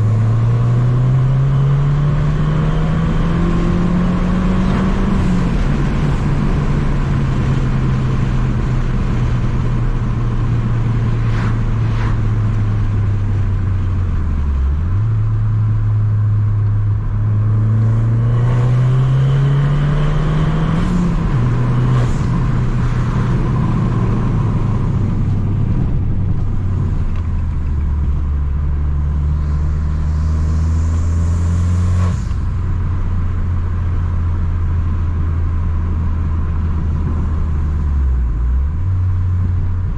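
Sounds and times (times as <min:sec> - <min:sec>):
car engine through exhaust: 0:00.0 - 0:39.9.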